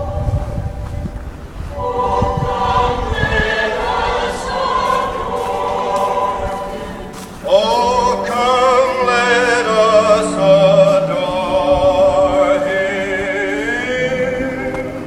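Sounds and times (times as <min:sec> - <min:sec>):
voices singing with vibrato: 0:00.0 - 0:15.0.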